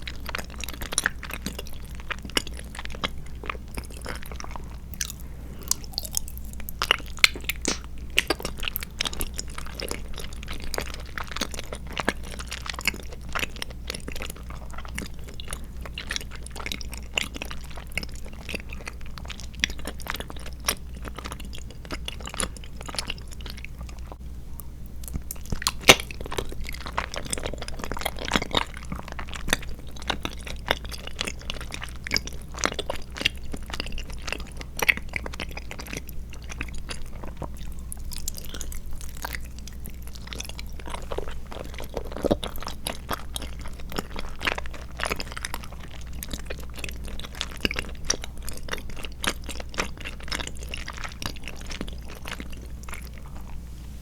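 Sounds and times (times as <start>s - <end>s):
person chewing wetly: 0.0s - 53.6s
steady low hum: 0.0s - 54.0s.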